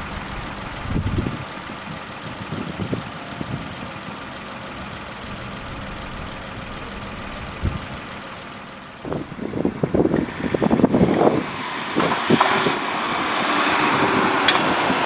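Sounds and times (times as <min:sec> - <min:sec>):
wind buffeting microphone: 0:00.0 - 0:03.7, 0:05.4 - 0:08.2, 0:09.0 - 0:15.0
car engines idling: 0:00.0 - 0:15.0.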